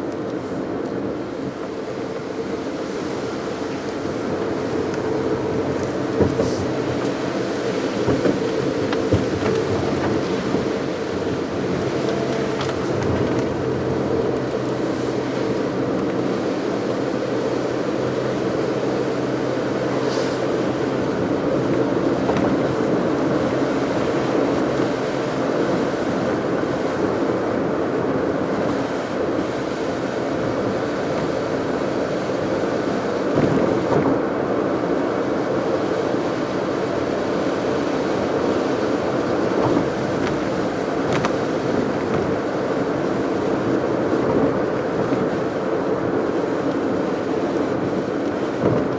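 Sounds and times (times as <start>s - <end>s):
car road and engine noise: 0.0s - 48.9s
faint low engine hum: 0.0s - 48.9s.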